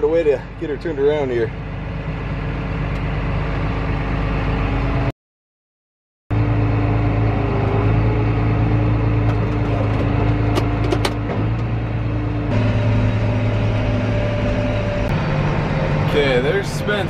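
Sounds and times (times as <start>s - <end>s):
tractor engine running: 0.0s - 5.0s, 6.3s - 17.0s.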